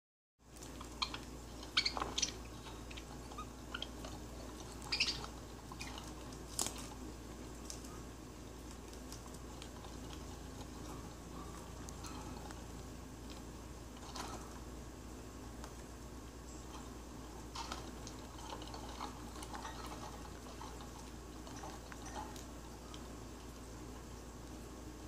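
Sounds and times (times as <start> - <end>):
faint low hum: 0.4 - 25.0.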